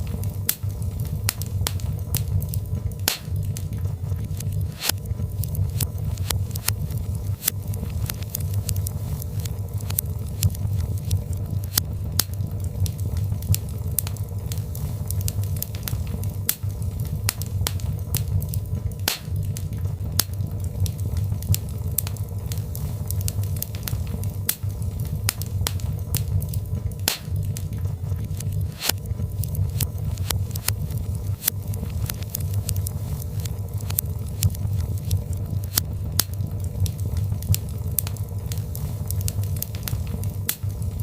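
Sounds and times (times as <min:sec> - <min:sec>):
fire crackling and popping: 0:00.0 - 0:41.0
low rumble of flames: 0:00.0 - 0:41.0.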